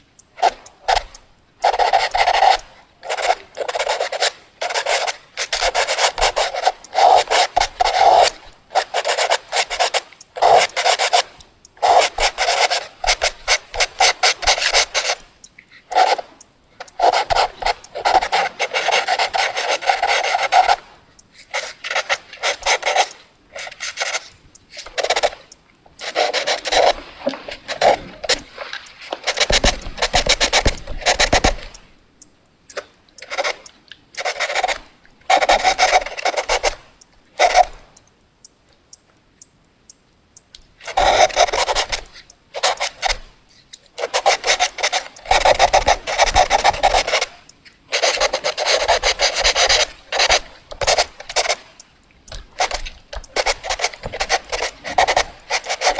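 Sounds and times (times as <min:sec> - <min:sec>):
drawing tool scratching on paper: 0:00.4 - 0:31.9, 0:32.7 - 0:37.8, 0:40.8 - 0:55.9.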